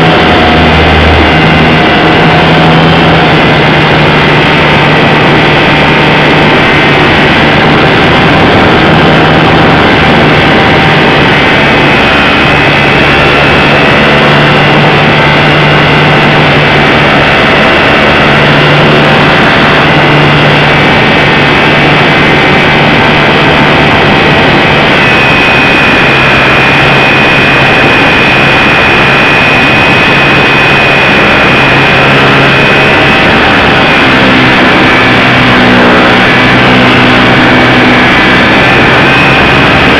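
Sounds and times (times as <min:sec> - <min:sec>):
model plane motor whine: 0:00.0 - 0:39.9
wind rush: 0:00.0 - 0:39.9.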